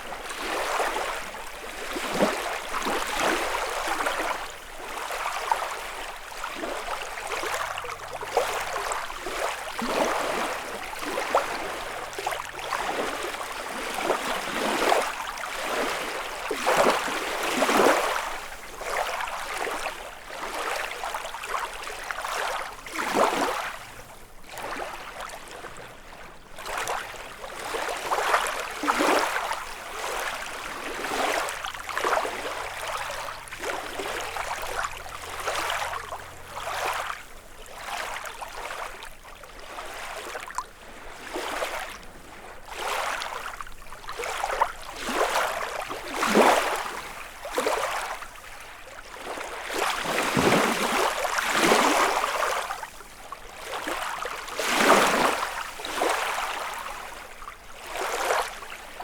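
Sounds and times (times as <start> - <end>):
lake waves lapping on shore: 0.0 - 59.0.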